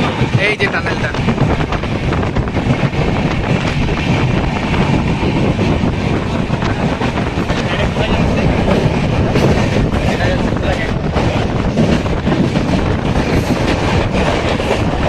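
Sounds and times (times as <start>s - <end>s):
train running on track: 0.0s - 15.0s
wind buffeting microphone: 0.0s - 15.0s.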